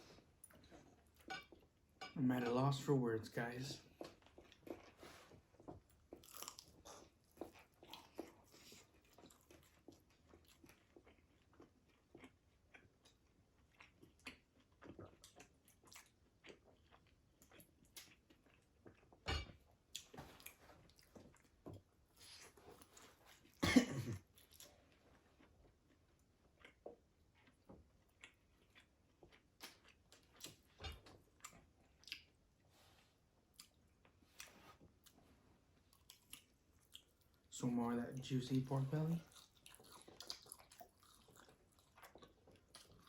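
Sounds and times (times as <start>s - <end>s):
chewing crunchy fried food: 0.0s - 2.0s, 3.4s - 43.0s.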